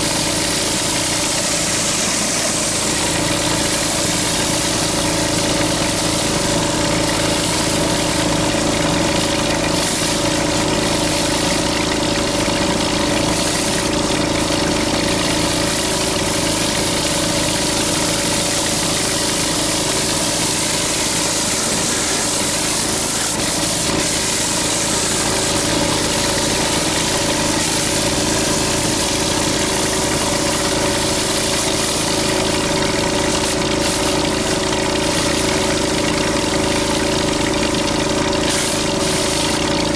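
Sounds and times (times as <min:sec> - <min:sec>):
pressure washer engine running: 0:00.0 - 0:39.9
water spraying hiss: 0:00.0 - 0:39.9.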